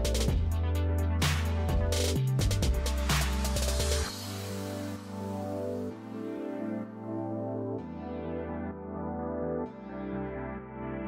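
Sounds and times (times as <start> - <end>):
electronic music with heavy beat: 0.0 - 11.0.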